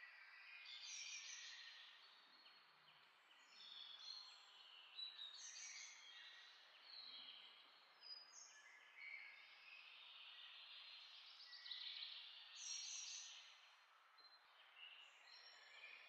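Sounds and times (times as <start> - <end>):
faint birdsong chirps: 0.0 - 16.0.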